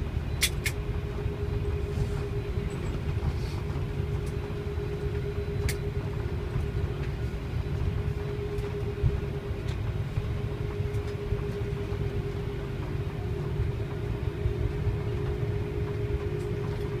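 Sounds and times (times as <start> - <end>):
airliner cabin rumble: 0.0 - 17.0
mid-pitched hum: 0.0 - 17.0.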